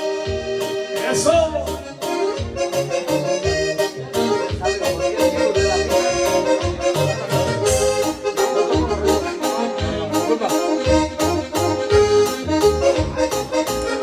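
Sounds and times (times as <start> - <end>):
accordion lead melody: 0.0 - 14.0
pulsing bass: 0.3 - 10.2, 10.8 - 14.0
steady drum beat: 1.4 - 14.0.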